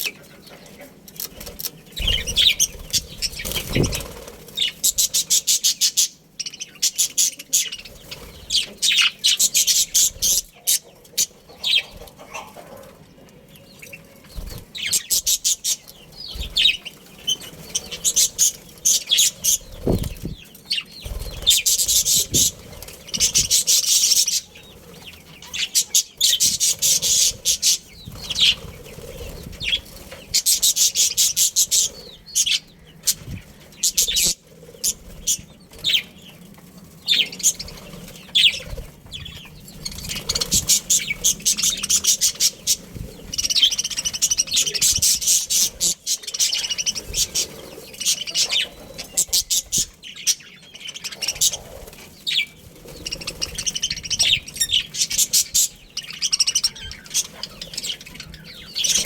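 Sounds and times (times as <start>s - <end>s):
budgerigars chirping: 0.0s - 12.8s, 13.5s - 36.3s, 37.0s - 59.0s.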